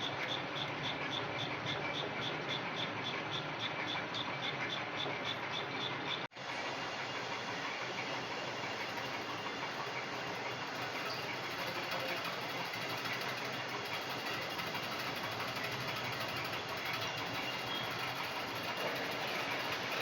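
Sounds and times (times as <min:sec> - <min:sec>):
lathe running: 0:00.0 - 0:20.0.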